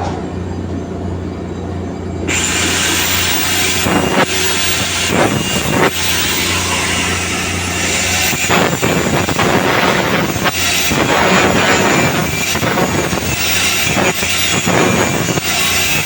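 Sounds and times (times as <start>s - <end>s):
welding arc hissing and popping: 2.3s - 16.0s
welding machine hum: 2.3s - 16.0s.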